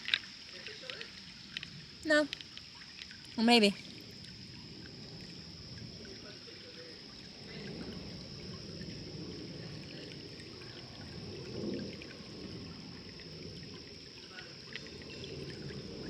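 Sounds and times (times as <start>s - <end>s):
small waterfall splashing: 0.0s - 16.0s.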